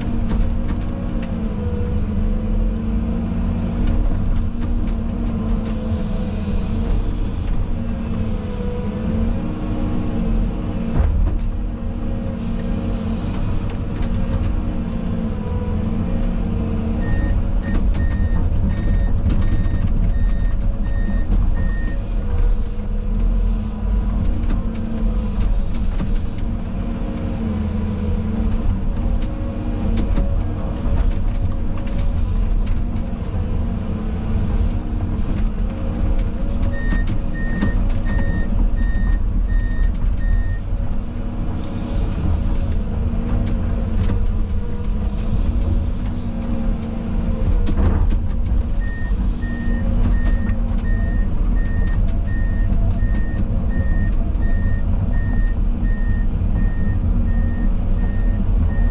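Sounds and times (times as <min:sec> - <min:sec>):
excavator engine and hydraulics: 0:00.0 - 0:58.9.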